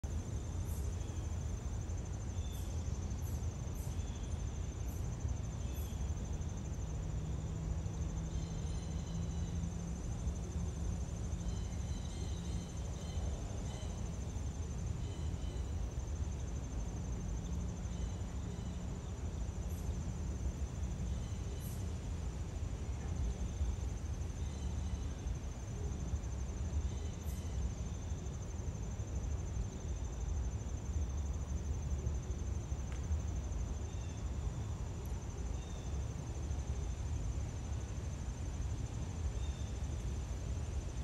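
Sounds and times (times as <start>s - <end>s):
insects trilling: 0.1s - 41.0s.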